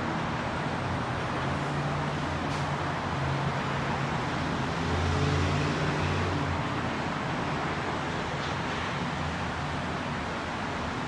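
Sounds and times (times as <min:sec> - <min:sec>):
freeway traffic roar: 0:00.0 - 0:11.0.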